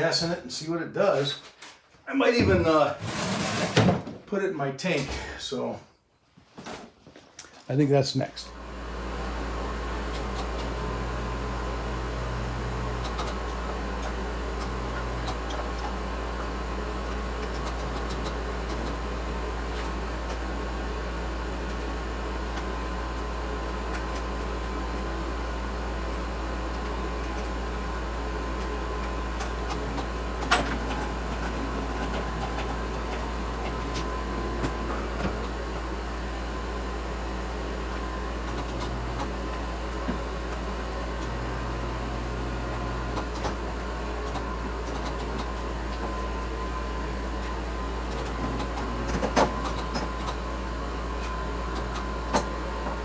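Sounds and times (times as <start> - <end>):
low mechanical hum: 8.2 - 53.0.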